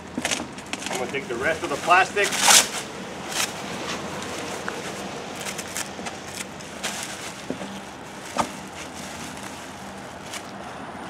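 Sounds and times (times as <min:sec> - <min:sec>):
plastic wrap crinkling: 0:00.0 - 0:10.7.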